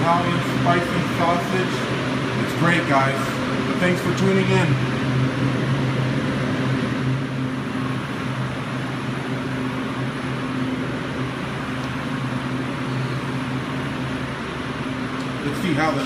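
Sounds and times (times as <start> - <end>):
steady machine hum with hiss: 0.0 - 16.0.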